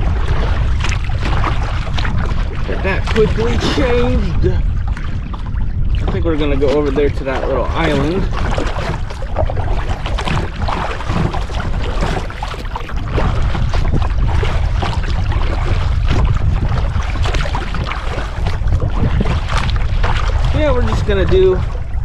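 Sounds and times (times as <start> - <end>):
water lapping against a kayak: 0.0 - 22.0
wind buffeting microphone: 0.0 - 22.0.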